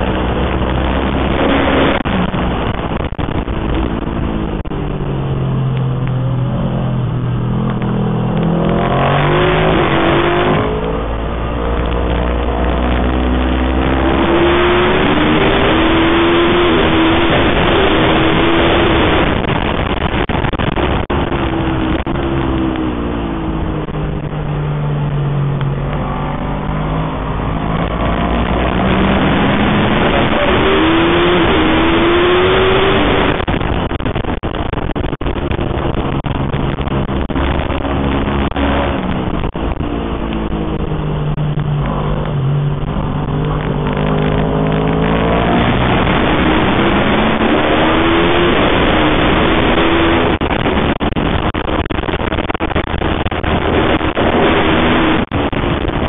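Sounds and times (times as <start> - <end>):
motorcycle engine revving: 0.0 - 56.0
wind rushing over microphone: 0.0 - 56.0.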